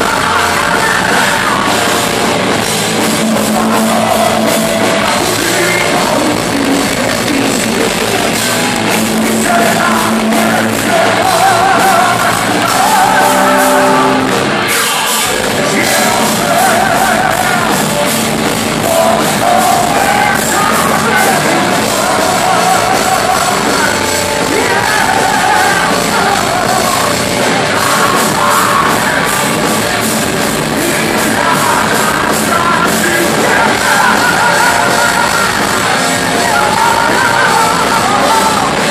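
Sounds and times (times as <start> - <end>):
heavy metal band playing: 0.0 - 38.9
man singing: 0.0 - 38.9.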